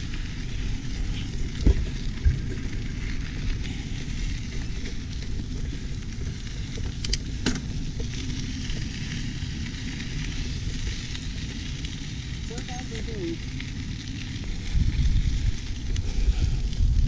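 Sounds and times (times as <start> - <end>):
bike clicks and rattles: 0.0 - 17.0
bike tyres crunching on gravel: 0.0 - 17.0.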